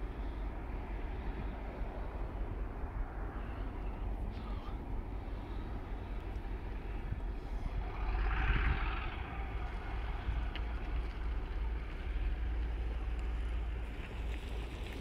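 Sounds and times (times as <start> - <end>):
low background rumble: 0.0 - 15.0
wind rumbling on microphone: 0.0 - 15.0.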